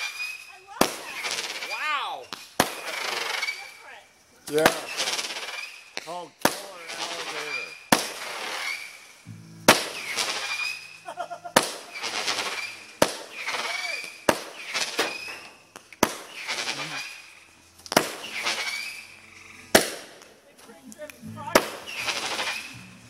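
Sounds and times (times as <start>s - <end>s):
short high firework whistle: 0.0s - 3.9s, 4.7s - 6.0s, 6.8s - 17.4s, 18.1s - 20.0s, 21.6s - 23.0s
firework bangs: 0.0s - 23.0s.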